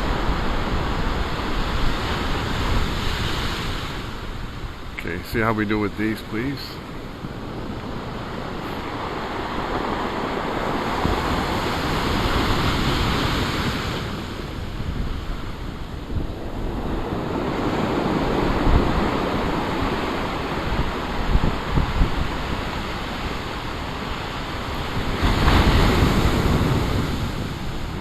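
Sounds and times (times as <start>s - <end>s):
storm waves breaking: 0.0s - 28.0s
wind buffeting microphone: 0.0s - 28.0s.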